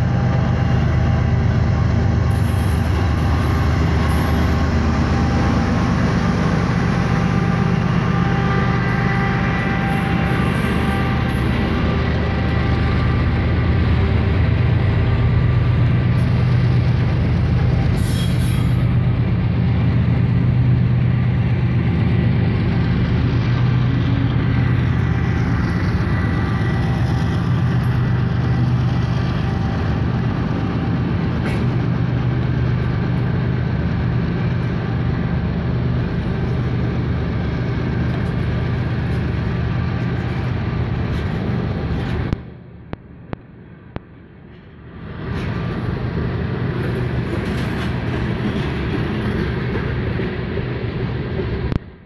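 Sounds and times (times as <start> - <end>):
freight cars rolling past: 0.0 - 52.0
locomotive engine drone: 0.0 - 52.0.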